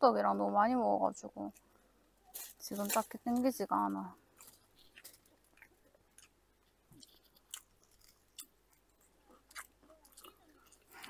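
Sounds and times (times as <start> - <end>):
chewing with soft crunches: 1.4 - 11.0.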